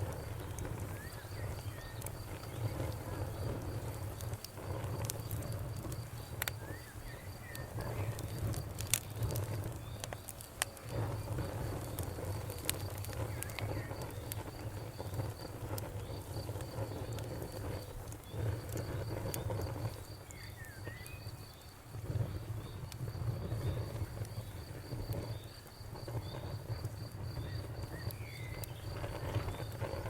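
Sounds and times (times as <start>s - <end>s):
low rumble of burning: 0.0s - 30.0s
sharp fire pops: 0.0s - 30.0s
wood fire crackling: 0.0s - 30.0s.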